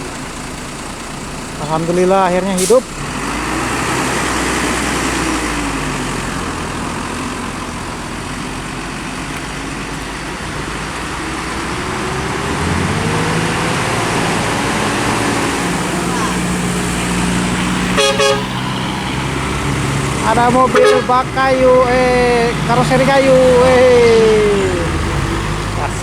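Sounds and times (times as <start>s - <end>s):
diesel bus engine revving: 0.0s - 26.0s.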